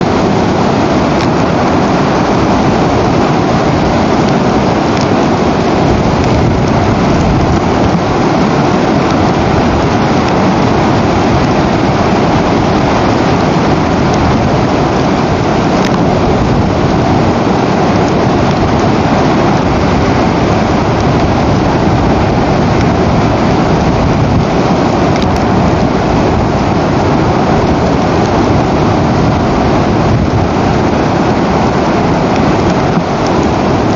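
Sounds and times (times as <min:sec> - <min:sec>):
loud rushing noise: 0:00.0 - 0:33.9.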